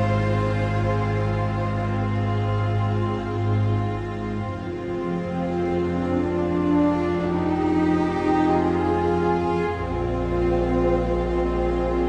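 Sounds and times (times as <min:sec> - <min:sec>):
slow sad orchestral music: 0:00.0 - 0:12.0.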